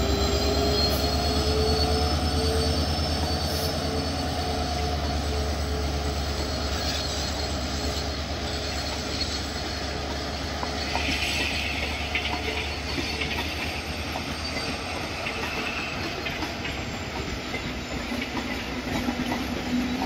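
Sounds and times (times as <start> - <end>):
diesel locomotive rumble: 0.0 - 20.0
wheel squeal on rails: 0.0 - 20.0.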